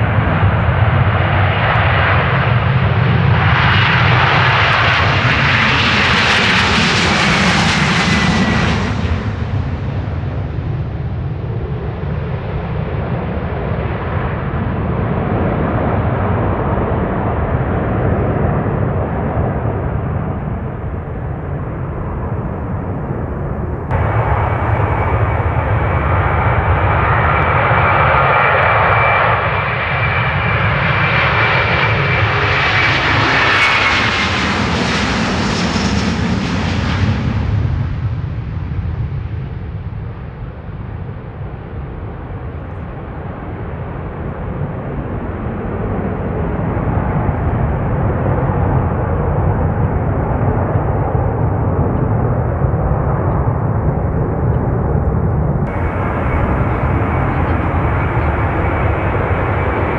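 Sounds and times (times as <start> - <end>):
jet engine roar with fan whine: 0.0 - 59.9.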